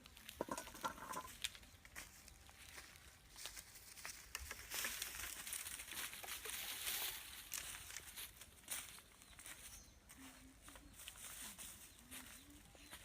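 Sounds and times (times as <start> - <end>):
rustling and crinkling: 0.0 - 13.0.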